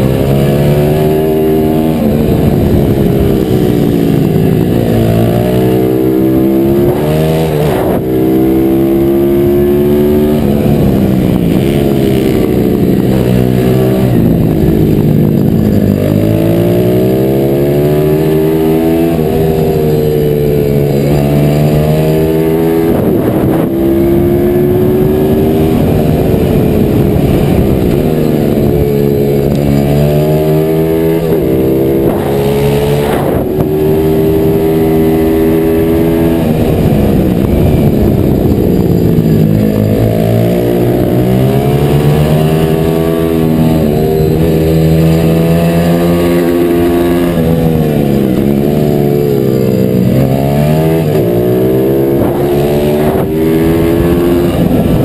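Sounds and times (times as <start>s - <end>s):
motorbike engine revving through gears: 0.0s - 55.0s.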